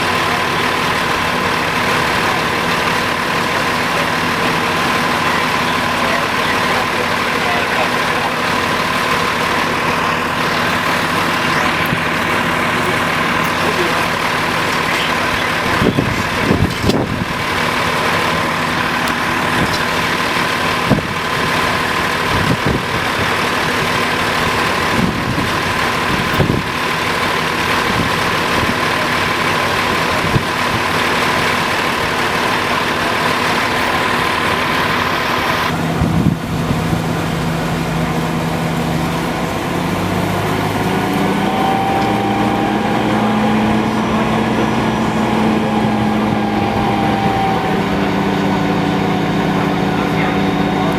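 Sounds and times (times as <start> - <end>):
heavy truck engine idling: 0.0 - 50.9
steady high whine: 0.0 - 50.9.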